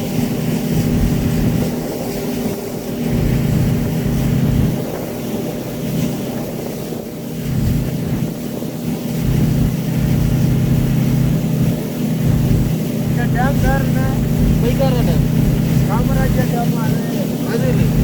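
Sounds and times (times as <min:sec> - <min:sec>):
rushing water: 0:00.0 - 0:18.0
speedboat engine drone: 0:00.0 - 0:18.0.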